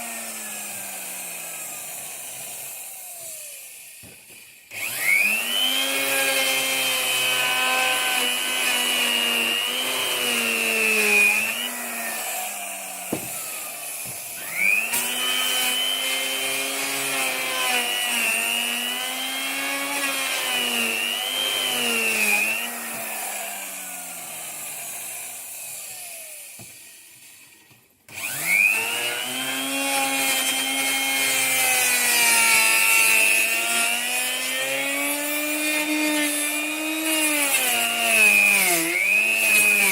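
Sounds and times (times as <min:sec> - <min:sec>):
electric router cutting wood: 0:00.0 - 0:27.5, 0:28.1 - 0:39.9.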